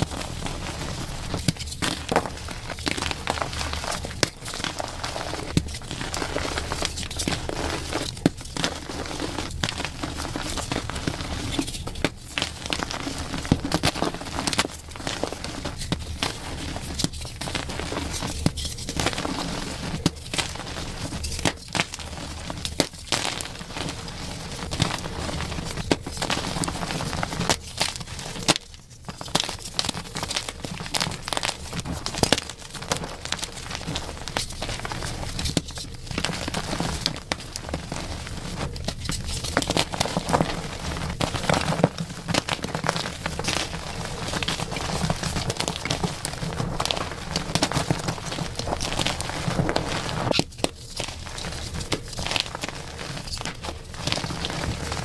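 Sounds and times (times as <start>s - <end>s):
chalk crunching and crackling: 0.0s - 55.0s.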